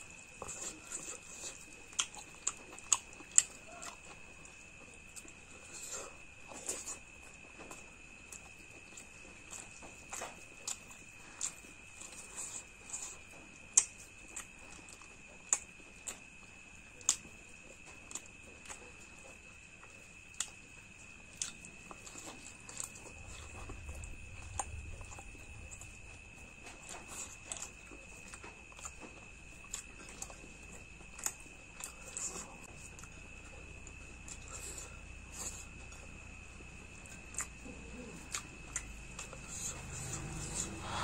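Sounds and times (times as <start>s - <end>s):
faint high whine: 0.0s - 41.0s
person chewing: 0.2s - 16.2s, 17.0s - 41.0s.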